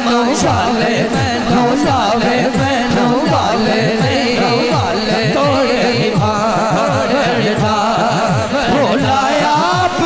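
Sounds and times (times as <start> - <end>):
person singing ornamented melody: 0.0 - 10.0
rhythmic low sliding tones: 0.0 - 10.0.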